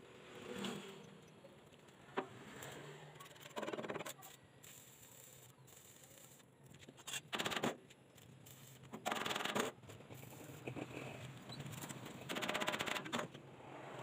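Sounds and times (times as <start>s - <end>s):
arc welding crackling: 1.5s - 13.2s.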